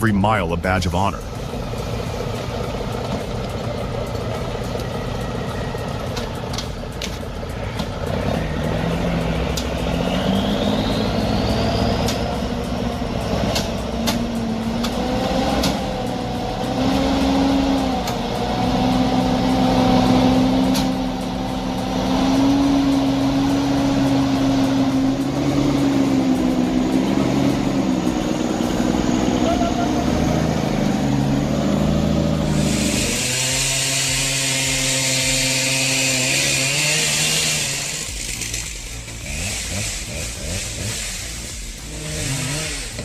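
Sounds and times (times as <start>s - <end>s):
truck engine under load: 0.0s - 43.0s.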